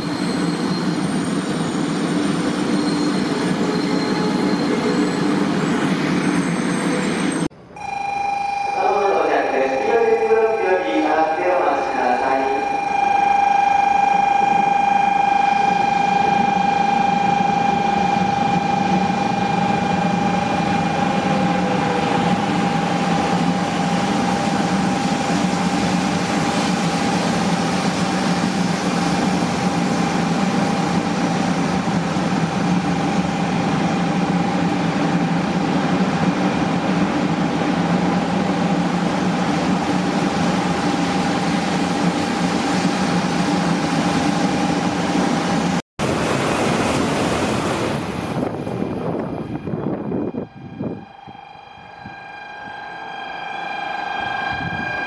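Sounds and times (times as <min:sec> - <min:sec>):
high train whine: 0:00.0 - 0:55.0
train rumbling on rails: 0:00.0 - 0:55.0.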